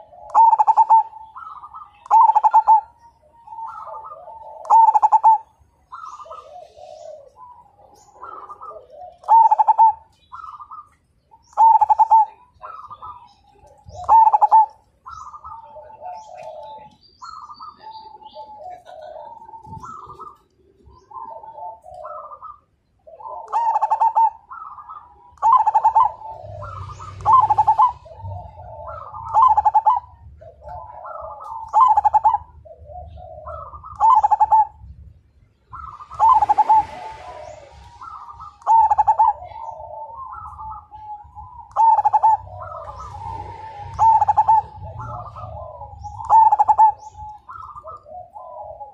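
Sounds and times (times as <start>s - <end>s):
zebra dove cooing: 0.0s - 34.9s, 35.7s - 48.9s.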